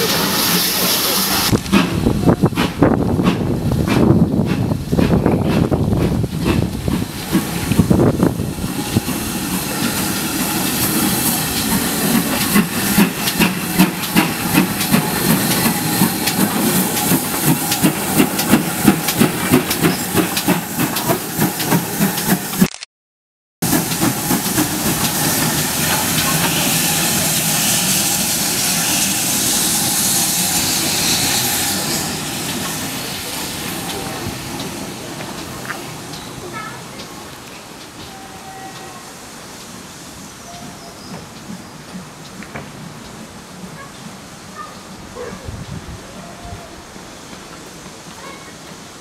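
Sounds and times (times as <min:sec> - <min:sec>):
steam hissing: 0:00.0 - 0:22.6, 0:23.6 - 0:45.0
steam locomotive chuffing: 0:00.0 - 0:22.7, 0:23.6 - 0:45.4.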